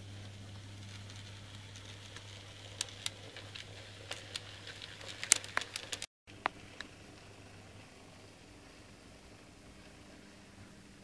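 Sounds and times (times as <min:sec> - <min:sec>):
small clicks and crackles: 0:00.0 - 0:10.3
low steady hum: 0:00.0 - 0:11.0.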